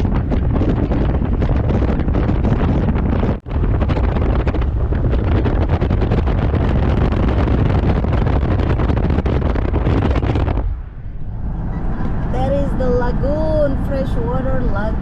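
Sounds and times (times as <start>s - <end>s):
car road rumble: 0.0s - 15.0s
wind buffeting microphone: 0.0s - 15.0s.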